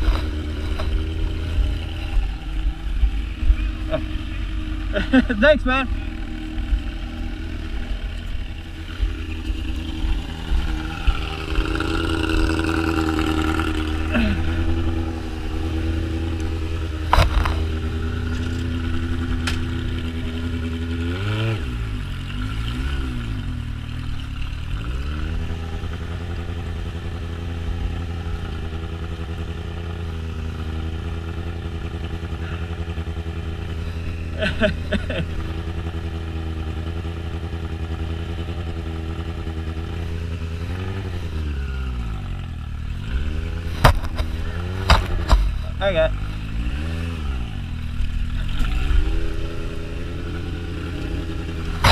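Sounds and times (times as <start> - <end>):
motorcycle engine at low revs: 0.0 - 51.9.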